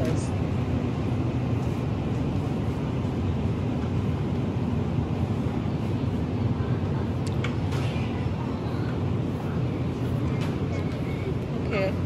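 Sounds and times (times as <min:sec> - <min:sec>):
refrigeration and ventilation hum: 0:00.0 - 0:12.0.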